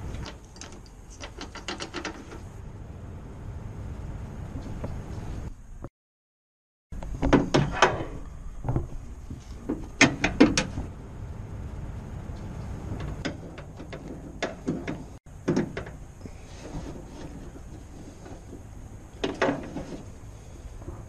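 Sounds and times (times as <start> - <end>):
low background rumble: 0.0 - 5.9, 7.0 - 21.0.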